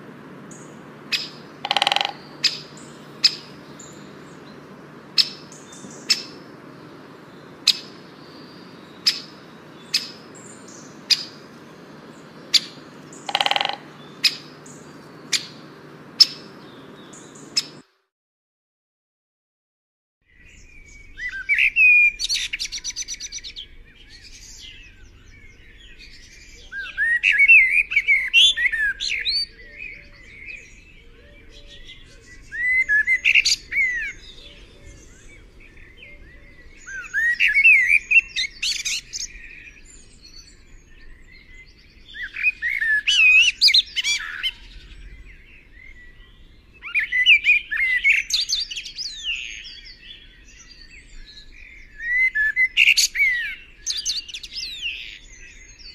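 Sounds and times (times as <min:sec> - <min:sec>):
birds chirping and squeaking: 0:00.4 - 0:17.8, 0:22.2 - 0:55.9.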